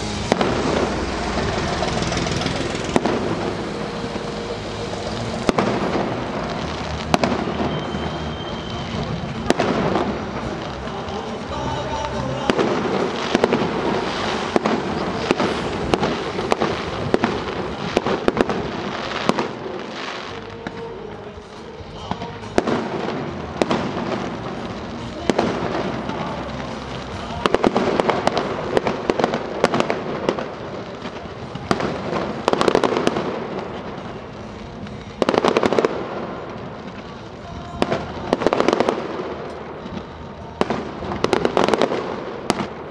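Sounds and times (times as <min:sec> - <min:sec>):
fireworks crackling and popping: 0:00.0 - 0:42.9.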